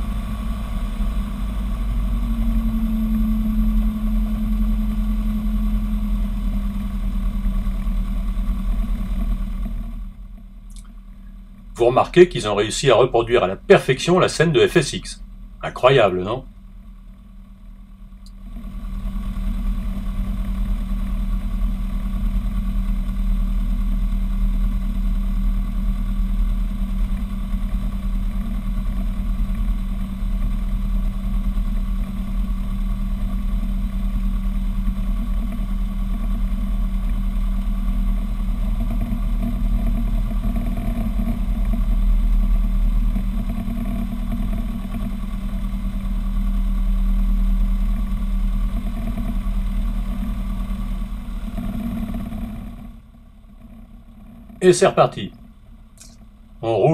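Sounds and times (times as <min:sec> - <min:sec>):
aircraft engine and propeller: 0:00.0 - 0:56.9.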